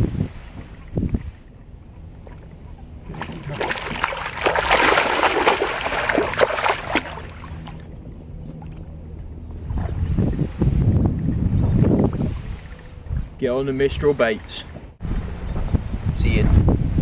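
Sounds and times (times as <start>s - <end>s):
water splashing and sloshing: 0.0s - 15.7s.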